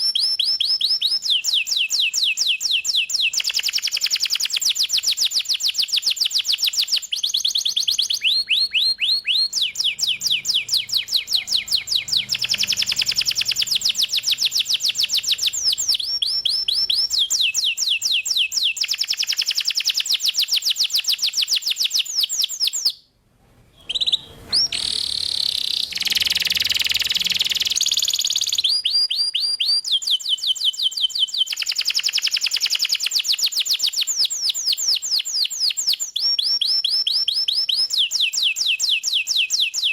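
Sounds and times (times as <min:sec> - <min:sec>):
canary singing trills: 0:00.0 - 0:23.0, 0:23.8 - 0:39.9.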